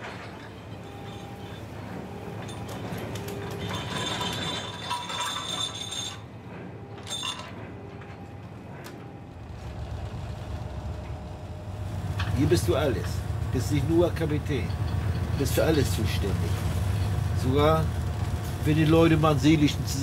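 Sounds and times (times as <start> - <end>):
low rumble of ship: 0.0 - 20.0
machinery rattling and clanking: 0.0 - 20.0
metallic ringing: 0.2 - 6.4, 7.0 - 8.2, 9.4 - 20.0.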